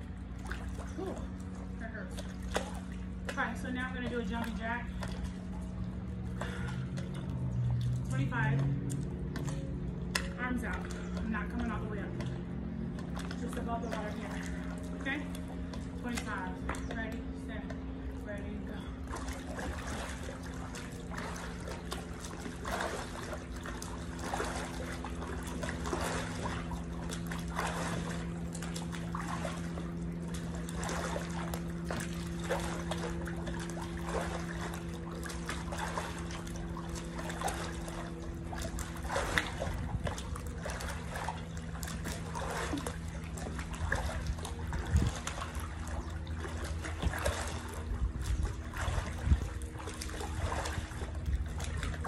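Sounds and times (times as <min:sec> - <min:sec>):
pool water splashing: 0:00.0 - 0:52.0
steady low hum: 0:00.0 - 0:52.0.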